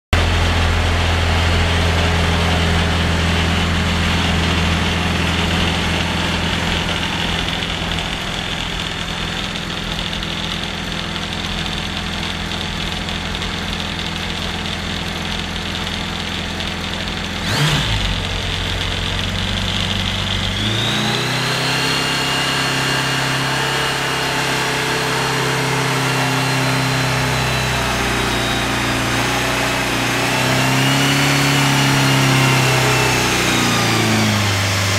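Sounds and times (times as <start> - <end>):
aircraft engine running: 0.2 - 34.9.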